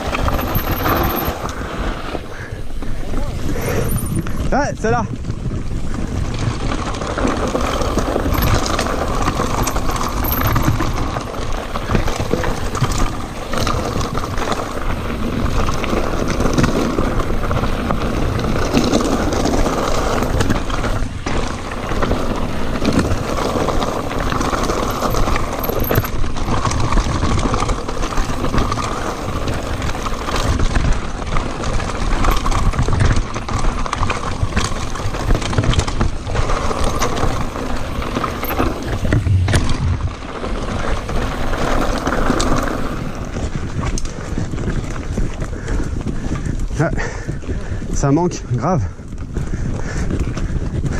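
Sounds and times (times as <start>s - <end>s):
bike knocking over stones: 0.0s - 4.6s, 5.2s - 44.2s
bike tyres rattling on gravel: 0.0s - 50.9s.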